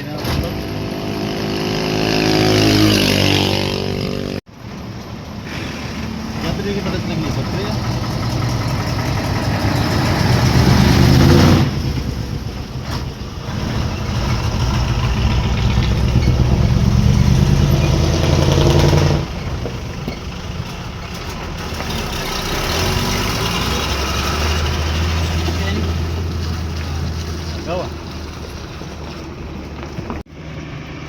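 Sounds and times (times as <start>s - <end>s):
truck engine revving: 5.4s - 31.0s.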